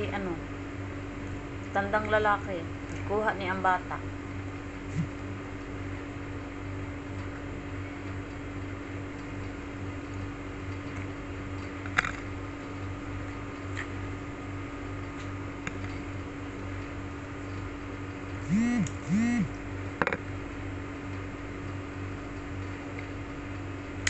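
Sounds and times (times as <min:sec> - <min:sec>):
electric appliance humming: 0:00.0 - 0:24.0.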